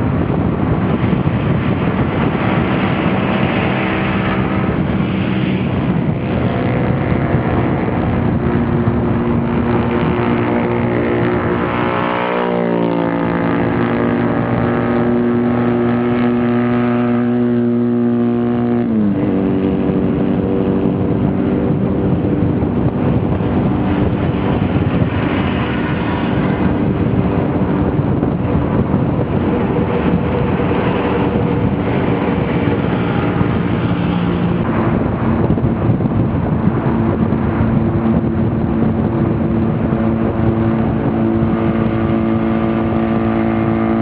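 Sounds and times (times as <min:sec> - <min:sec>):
motorcycle engine running: 0:00.0 - 0:44.0
wind noise: 0:00.0 - 0:44.0.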